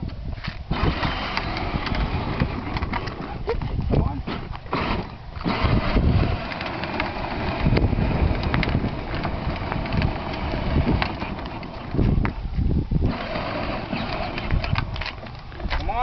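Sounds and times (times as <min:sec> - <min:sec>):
plastic wheels rolling on asphalt: 0:00.0 - 0:16.0
wind buffeting microphone: 0:00.0 - 0:16.0
small electric motor running: 0:00.7 - 0:03.4, 0:04.1 - 0:15.6.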